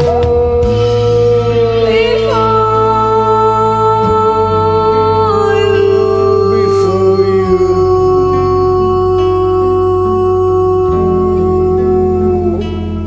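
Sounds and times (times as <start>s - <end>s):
keyboard chords backing track: 0.0s - 13.0s
man and woman singing duet: 0.0s - 13.0s.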